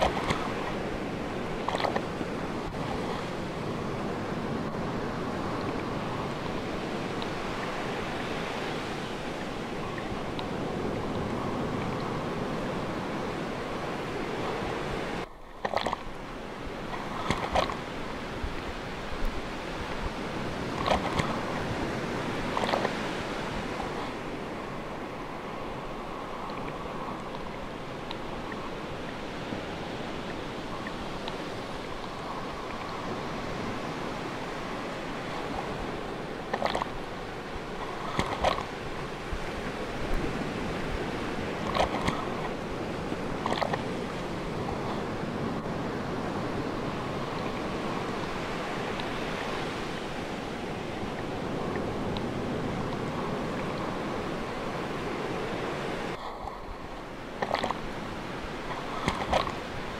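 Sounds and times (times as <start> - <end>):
sea waves washing: 0.0 - 59.9.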